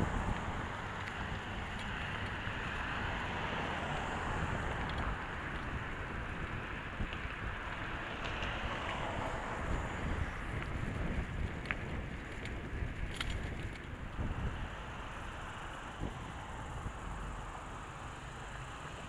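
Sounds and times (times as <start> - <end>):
wind rushing on microphone: 0.0 - 17.6
tyres rumbling on pavement: 0.0 - 19.0.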